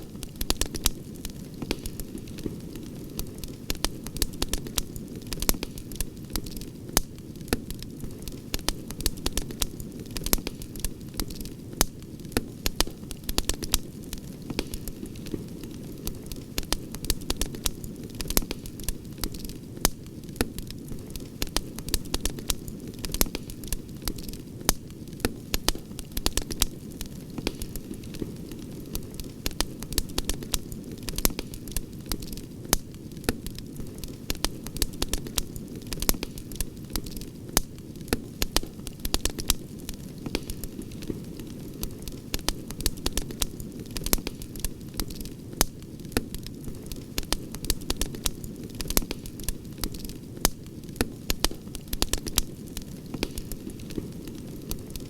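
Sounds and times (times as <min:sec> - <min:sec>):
campfire crackling and popping: 0:00.0 - 0:55.0
low rush of flames: 0:00.1 - 0:55.0.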